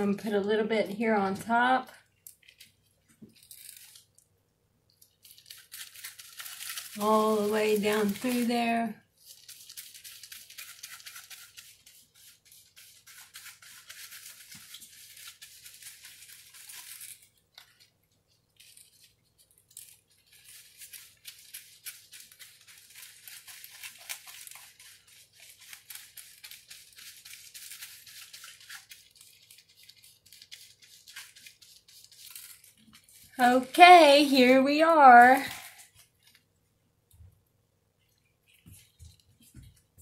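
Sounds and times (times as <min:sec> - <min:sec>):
foil crinkling: 0:01.3 - 0:04.3, 0:04.9 - 0:36.5.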